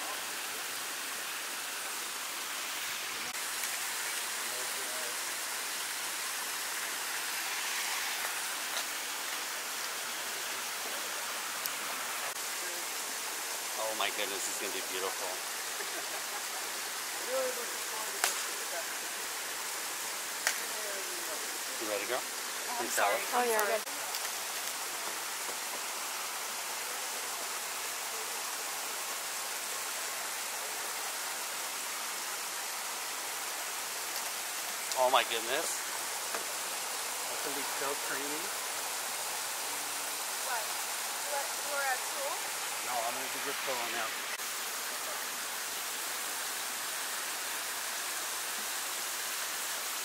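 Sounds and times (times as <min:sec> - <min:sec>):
steady rushing hiss: 0:00.0 - 0:50.0.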